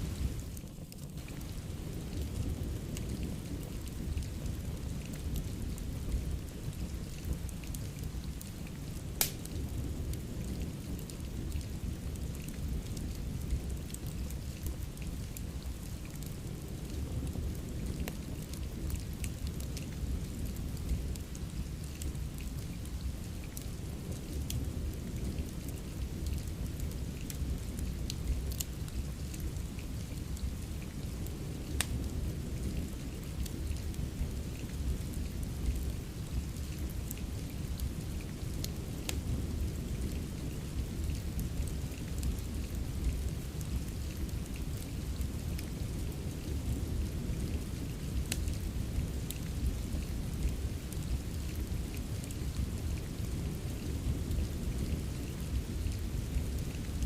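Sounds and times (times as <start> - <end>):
steady rain: 0.0 - 57.0
wood fire crackling: 0.0 - 57.0.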